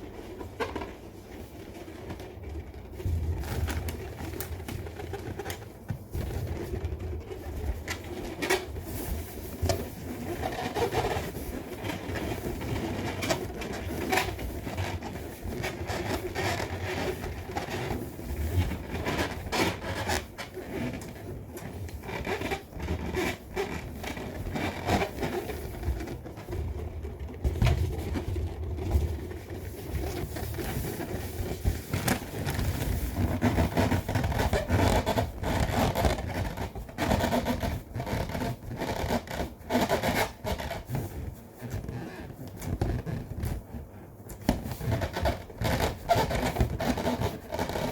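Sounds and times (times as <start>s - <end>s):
balloon squeaking and rubbing: 0.0s - 47.9s.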